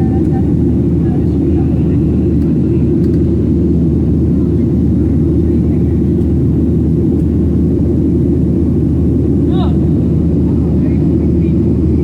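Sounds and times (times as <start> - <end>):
airplane cabin engine drone: 0.0 - 12.0.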